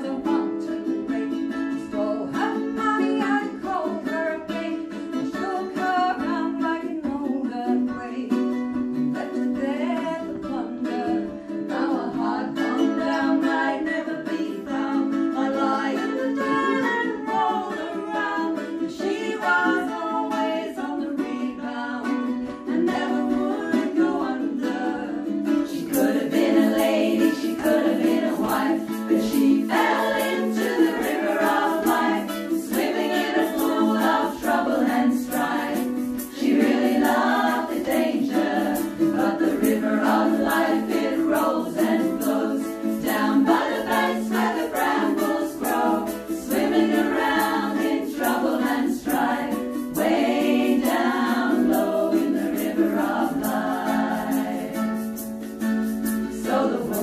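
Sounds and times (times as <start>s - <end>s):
women singing in harmony: 0.0s - 8.5s, 9.1s - 57.0s
strummed ukulele: 0.0s - 57.0s.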